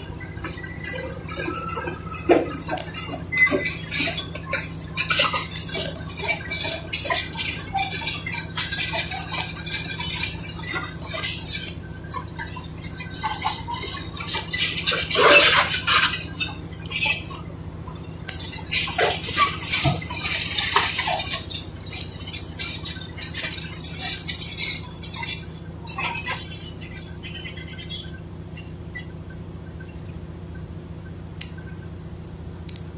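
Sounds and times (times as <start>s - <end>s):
broken concrete scraping: 0.0s - 17.3s, 18.3s - 28.1s
steel tracks clanking: 0.0s - 29.2s
bulldozer diesel engine: 0.0s - 32.9s.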